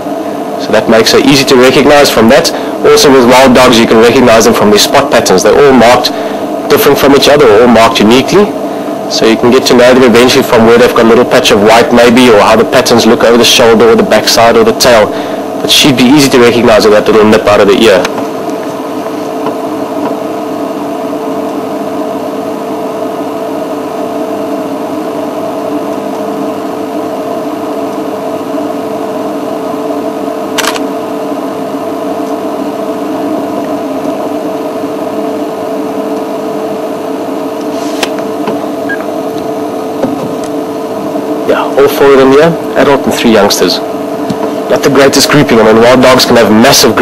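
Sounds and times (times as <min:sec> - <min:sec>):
steady hum of fixed tones: 0:00.0 - 0:47.0.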